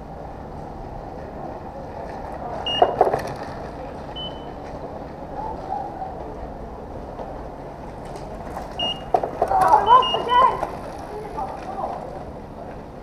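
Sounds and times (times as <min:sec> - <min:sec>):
bicycle rattling over cobblestones: 0:00.0 - 0:13.0.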